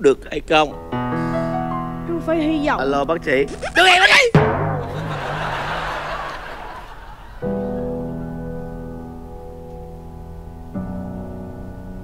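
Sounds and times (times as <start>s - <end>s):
sad piano chords: 0.7s - 3.7s, 4.4s - 12.0s.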